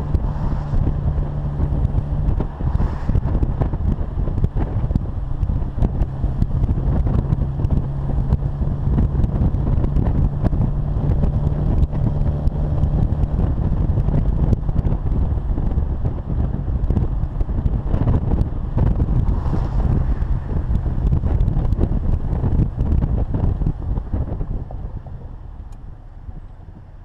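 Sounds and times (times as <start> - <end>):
car engine and exhaust running: 0.0 - 27.0
wind buffeting microphone: 0.0 - 27.0.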